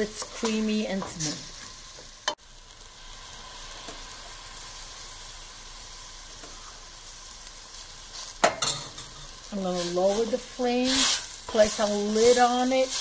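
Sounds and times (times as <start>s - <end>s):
food sizzling in saucepan: 0.0s - 13.0s.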